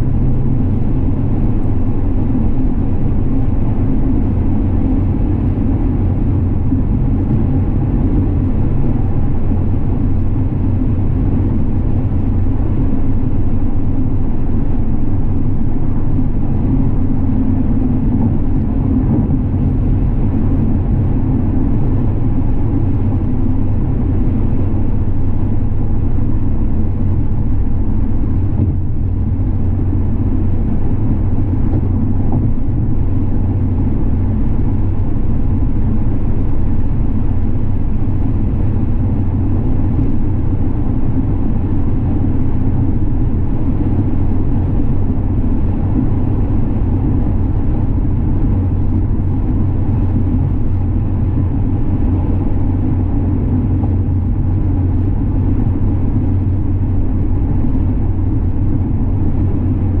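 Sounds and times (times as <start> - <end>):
car engine and road rumble: 0.0 - 60.0.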